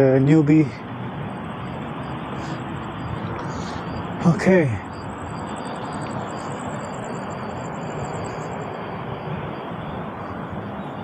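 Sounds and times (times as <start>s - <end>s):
high-pitched pulsing whine: 0.0s - 11.0s
wind and rolling noise: 0.0s - 11.0s.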